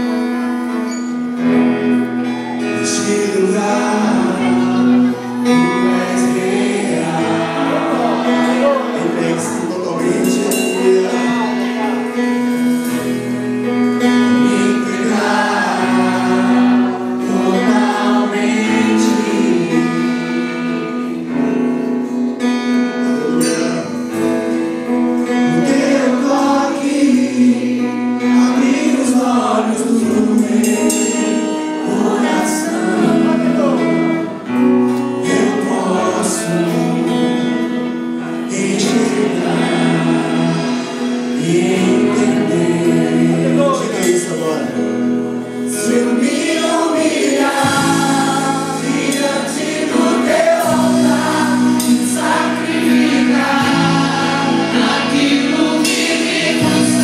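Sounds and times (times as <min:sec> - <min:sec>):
group of singers: 0:00.0 - 0:57.0.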